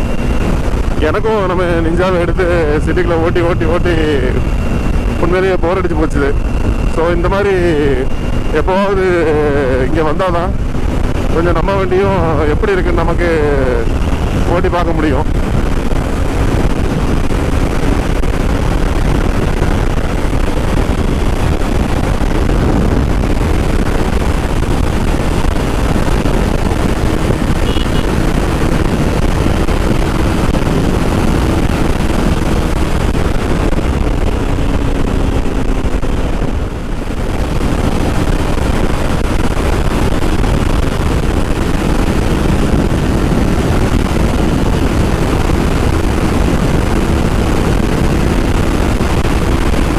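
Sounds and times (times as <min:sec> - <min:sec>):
motorcycle engine running: 0:00.0 - 0:49.9
wind rush on microphone: 0:00.0 - 0:49.9.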